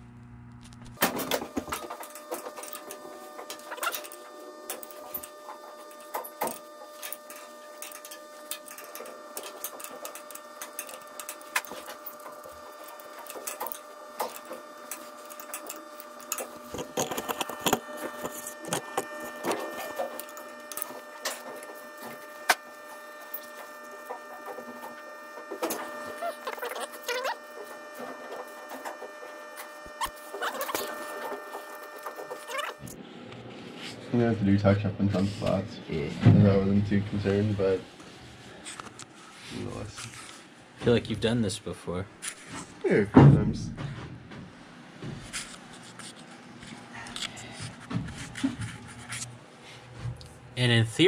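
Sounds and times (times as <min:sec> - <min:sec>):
steady mechanical hum: 0:00.0 - 0:51.0.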